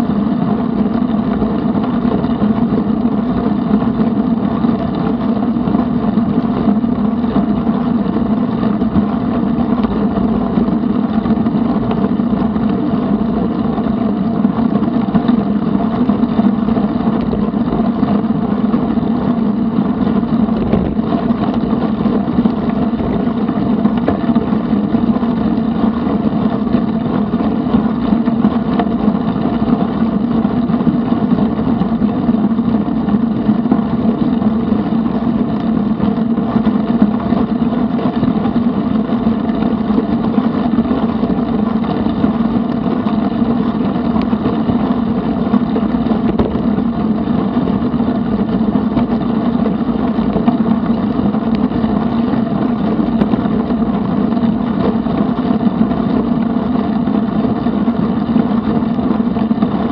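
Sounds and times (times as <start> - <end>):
constant low hum: 0.0 - 59.9
wind noise: 0.0 - 59.9.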